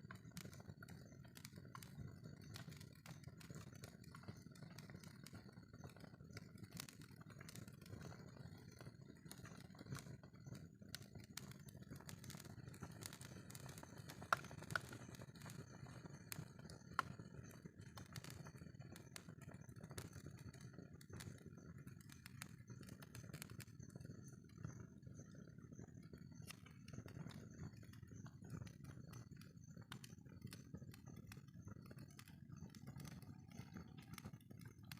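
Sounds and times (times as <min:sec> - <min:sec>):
wood fire crackling: 0:00.0 - 0:24.8, 0:25.5 - 0:34.9.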